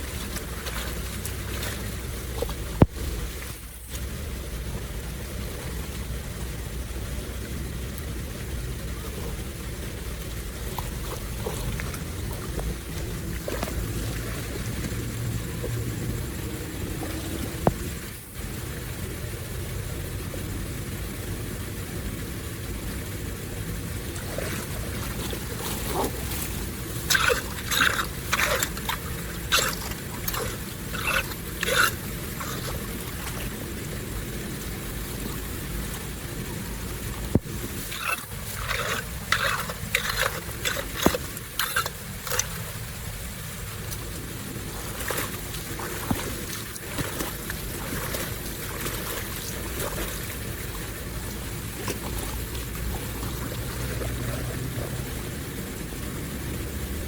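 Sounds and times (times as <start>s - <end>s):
splashing and scraping: 0.0s - 6.8s, 8.8s - 18.5s, 23.9s - 55.6s
water flowing: 0.0s - 57.0s.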